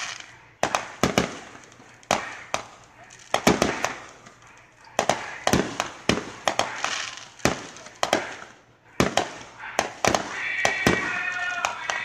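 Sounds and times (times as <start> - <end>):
crackling hiss: 0.0 - 12.0
fireworks bangs: 0.0 - 12.0.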